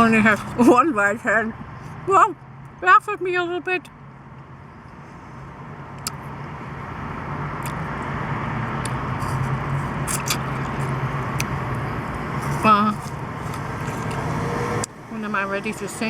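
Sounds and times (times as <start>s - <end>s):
traffic engine hum: 0.0s - 16.0s.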